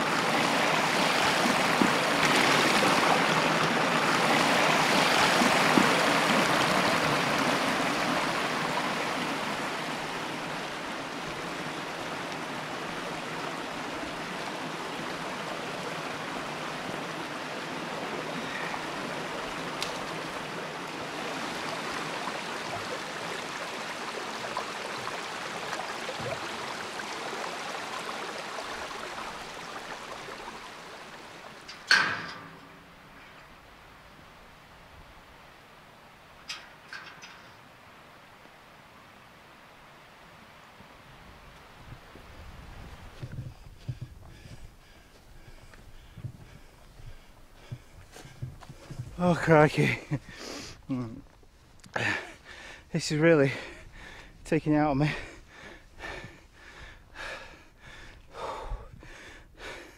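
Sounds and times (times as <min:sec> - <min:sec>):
stream flowing over stones: 0:00.0 - 0:53.9.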